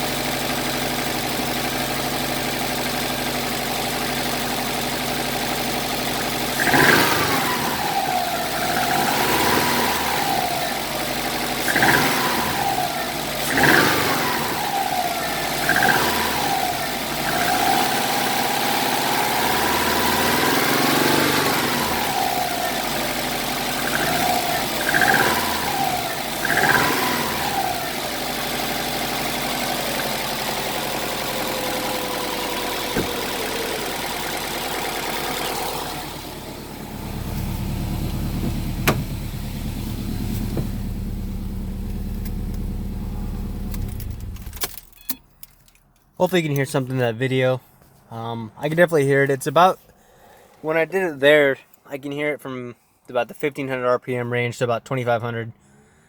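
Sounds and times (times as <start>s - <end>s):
car engine idling and revving: 0.0s - 45.8s.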